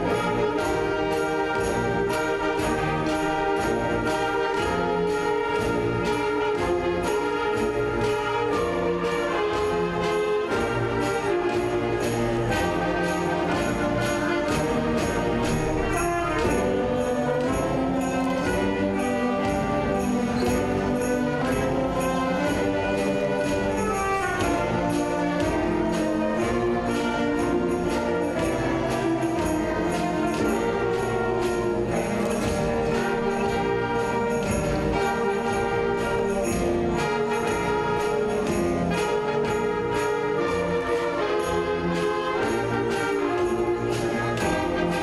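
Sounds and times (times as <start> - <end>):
concert band playing: 0.0 - 45.0.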